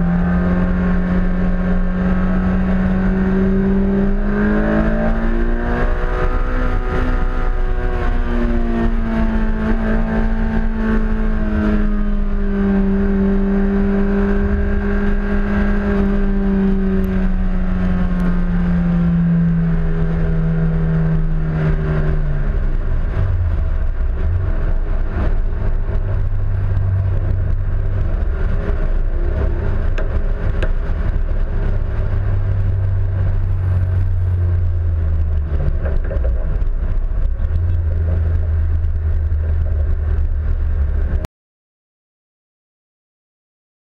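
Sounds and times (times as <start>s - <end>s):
car engine: 0.0s - 41.3s
wind and road rumble: 0.0s - 41.3s.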